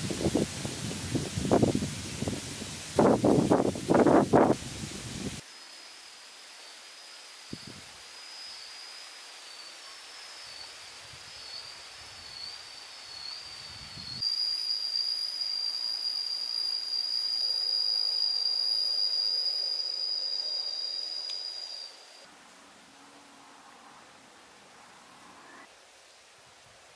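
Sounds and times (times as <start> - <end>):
cicadas droning: 0.0 - 26.9.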